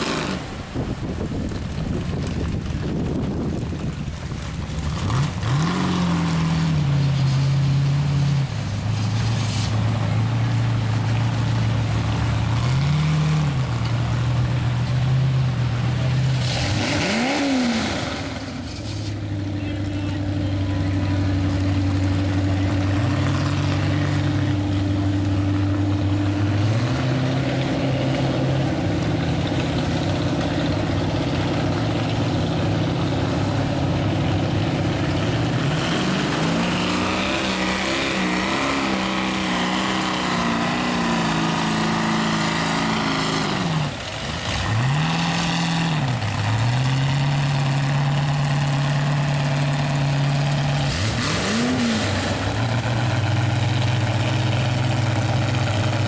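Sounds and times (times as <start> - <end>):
truck engine running hard: 0.0 - 56.0.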